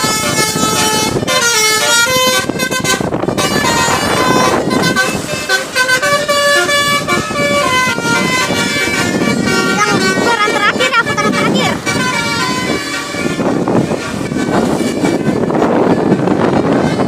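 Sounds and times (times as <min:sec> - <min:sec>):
multi-tone musical bus horns: 0:00.0 - 0:17.0.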